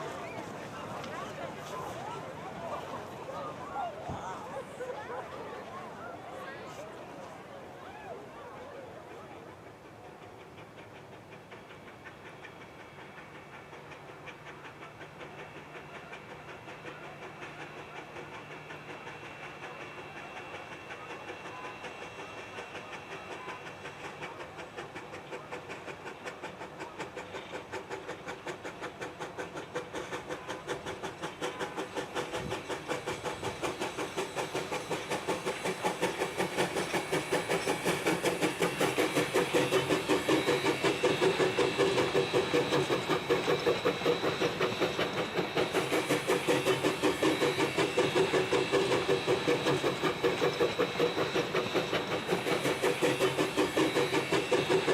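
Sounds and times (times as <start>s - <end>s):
steam locomotive chuffing: 0.0s - 54.9s
steam hiss: 9.5s - 54.9s.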